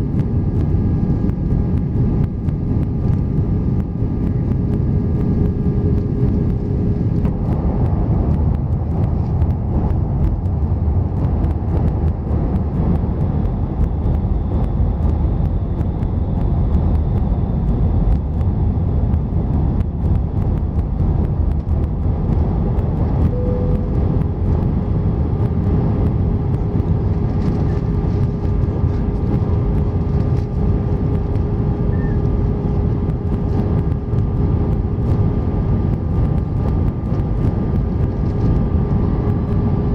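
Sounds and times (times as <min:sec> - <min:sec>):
faint steady hum: 0:00.0 - 0:39.9
jet engines and airflow rumble: 0:00.0 - 0:39.9.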